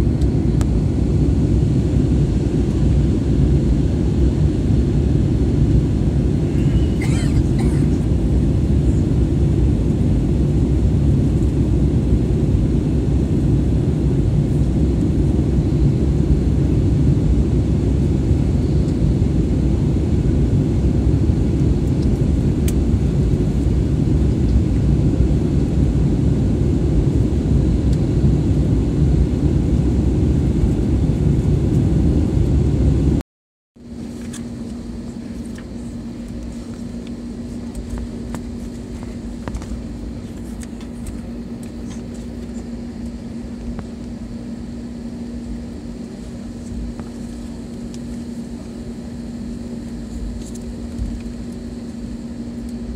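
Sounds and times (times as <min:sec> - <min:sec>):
cabin hum with low tone: 0:00.0 - 0:33.2, 0:33.8 - 0:52.9
jet cabin engine and airflow noise: 0:00.0 - 0:33.2, 0:33.8 - 0:52.9.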